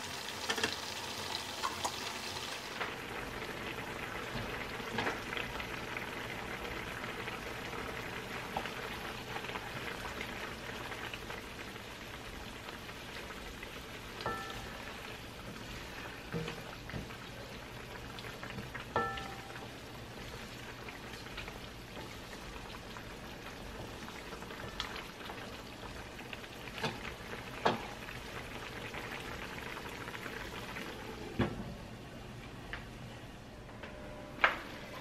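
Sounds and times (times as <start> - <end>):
food bubbling in a wok: 0.0 - 31.3.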